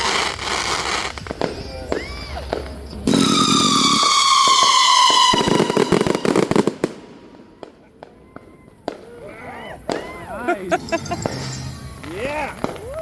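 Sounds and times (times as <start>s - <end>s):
fireworks popping: 0.0s - 13.0s
whistling firework shell: 0.0s - 13.0s.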